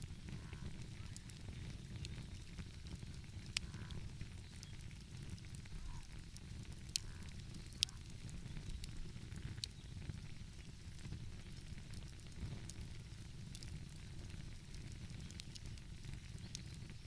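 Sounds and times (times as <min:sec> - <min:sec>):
sharp pops from fire: 0:00.0 - 0:17.0
steady low rumble: 0:00.0 - 0:17.0
wood fire crackling: 0:00.0 - 0:17.0.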